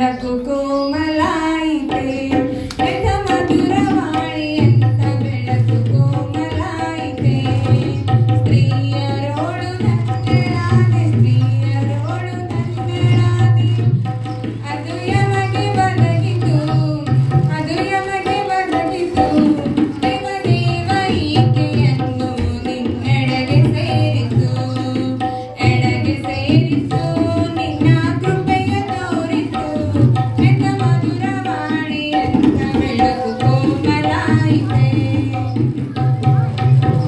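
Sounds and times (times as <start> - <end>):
tabla drum rhythm: 0.0 - 37.0
woman singing: 0.0 - 37.0.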